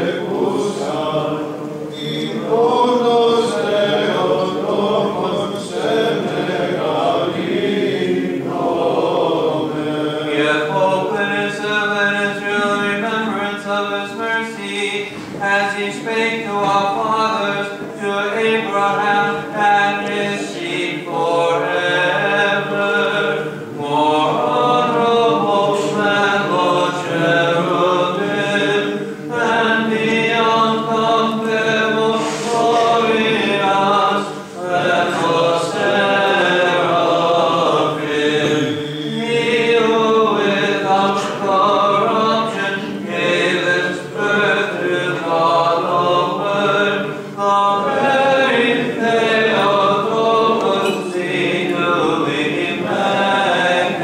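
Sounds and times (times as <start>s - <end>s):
choir chanting a cappella: 0.0s - 54.0s.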